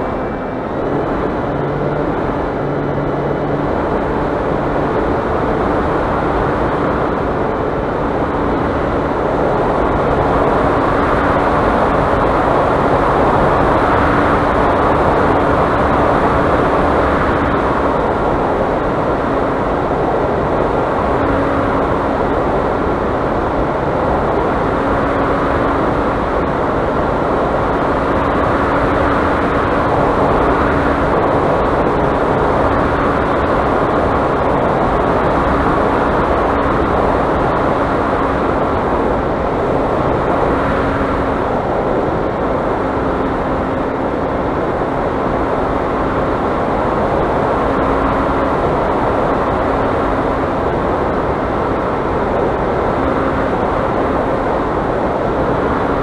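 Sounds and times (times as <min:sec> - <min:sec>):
airflow rushing over camera: 0:00.0 - 0:56.0.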